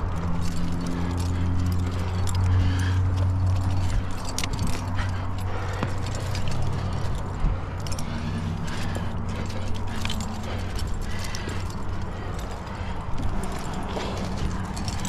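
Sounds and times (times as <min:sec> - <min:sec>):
climbing gear clinking: 0:00.0 - 0:15.0
steady low hum: 0:00.0 - 0:15.0.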